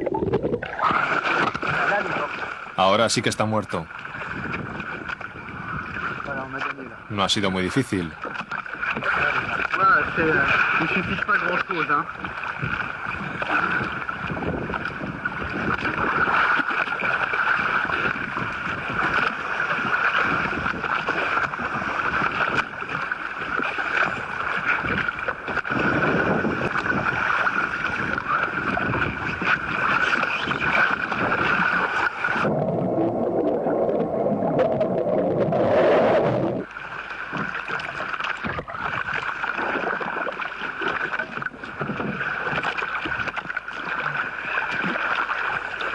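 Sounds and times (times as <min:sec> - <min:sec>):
muffled water wash: 0:00.0 - 0:45.9
water splashing against boat: 0:00.0 - 0:45.9.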